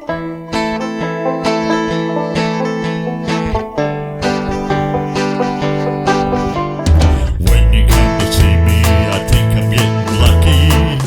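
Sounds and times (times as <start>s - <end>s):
guitar-led song with heavy bass: 0.0s - 11.0s.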